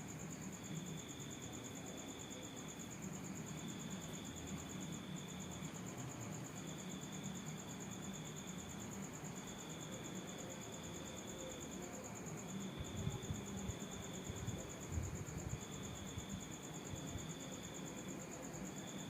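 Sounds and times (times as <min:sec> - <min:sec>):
crickets chirping: 0:00.0 - 0:19.0
low insect call: 0:00.0 - 0:19.0.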